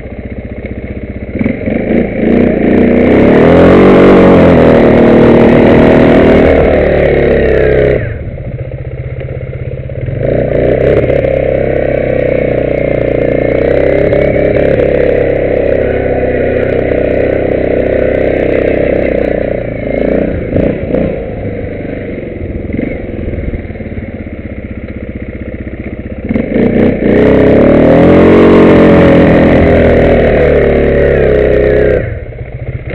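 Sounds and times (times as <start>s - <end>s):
atv engine running: 0.0s - 32.9s.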